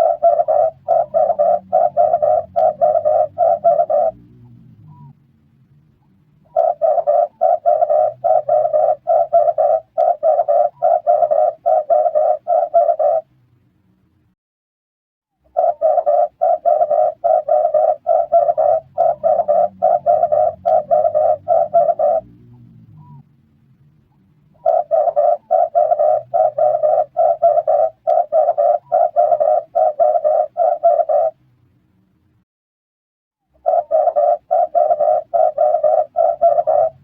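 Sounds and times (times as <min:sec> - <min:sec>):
dove cooing: 0:00.0 - 0:05.2, 0:06.4 - 0:13.3, 0:15.5 - 0:23.2, 0:24.5 - 0:31.4, 0:33.6 - 0:37.0.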